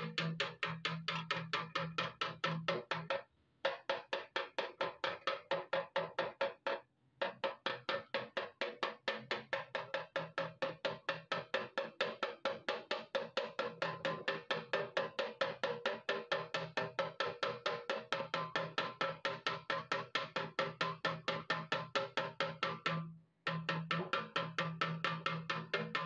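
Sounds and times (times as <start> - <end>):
hammer tapping steel tank: 0.0 - 26.0.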